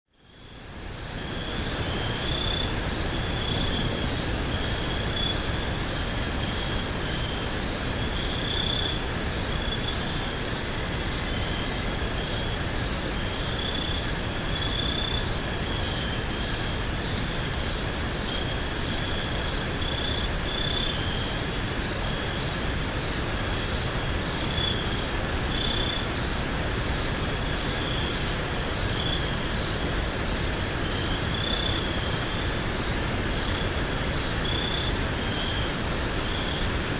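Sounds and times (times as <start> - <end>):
insects trilling: 0.2 - 36.9.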